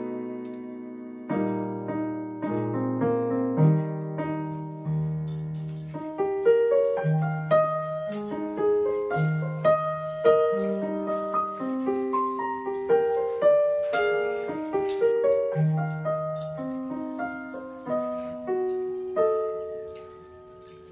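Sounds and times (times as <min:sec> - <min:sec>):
piano music: 0:00.0 - 0:20.9.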